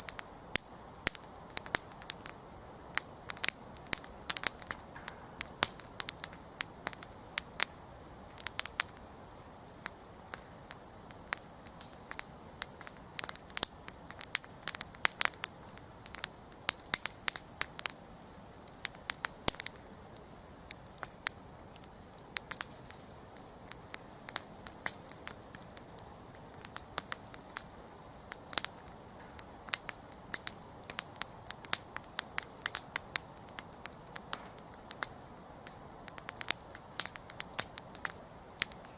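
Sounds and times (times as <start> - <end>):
campfire crackling and popping: 0.0 - 38.9
low hiss of flame: 0.0 - 38.9.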